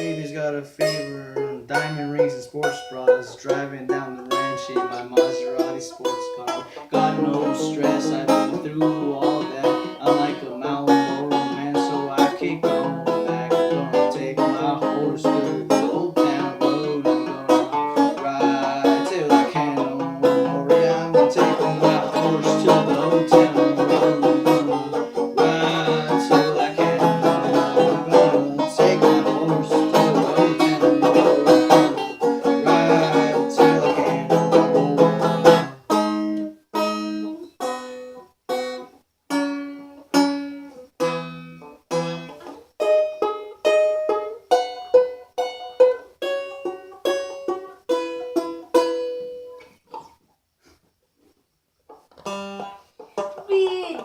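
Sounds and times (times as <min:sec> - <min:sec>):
plucked string instrument strumming: 0:00.0 - 0:50.1, 0:51.9 - 0:54.0.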